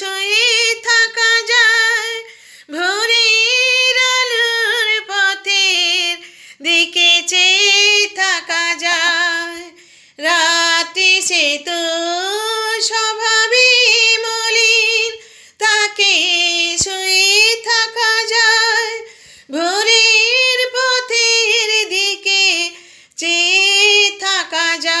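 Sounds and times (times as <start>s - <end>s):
woman singing unaccompanied: 0.0s - 25.0s.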